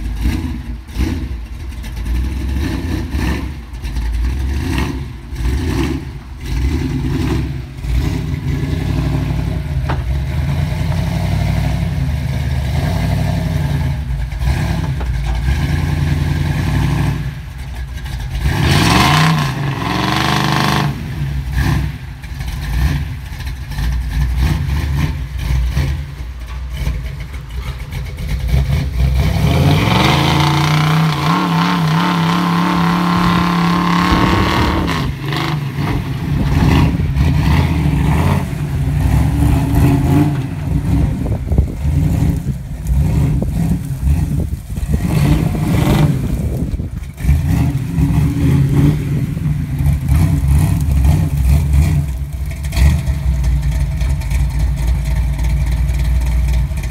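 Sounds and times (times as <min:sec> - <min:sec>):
truck engine revving: 0:00.0 - 0:56.9.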